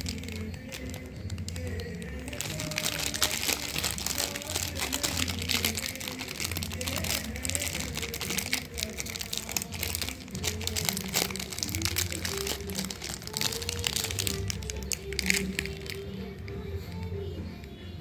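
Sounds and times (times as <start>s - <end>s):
plastic wrapper crinkling and tearing: 0.0s - 17.2s.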